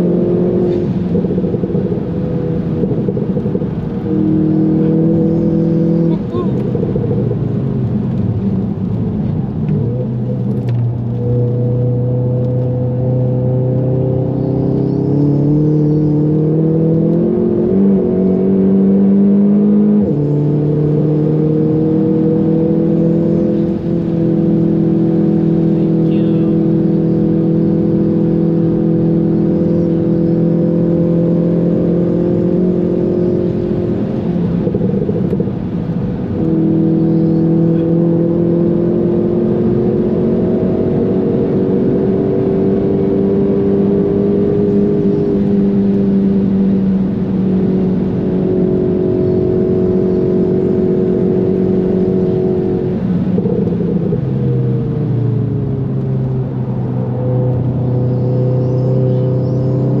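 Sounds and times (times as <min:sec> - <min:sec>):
car engine accelerating hard: 0:00.0 - 1:00.0.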